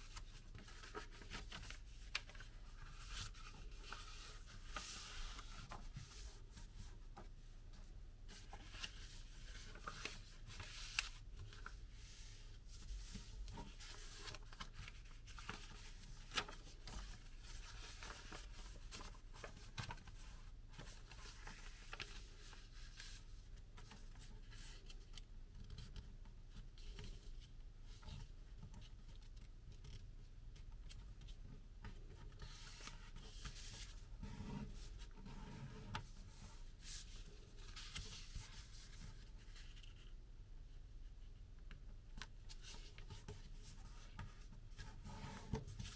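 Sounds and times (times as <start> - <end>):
paper being folded and creased: 0.0 - 30.0, 30.6 - 40.2, 42.2 - 45.9.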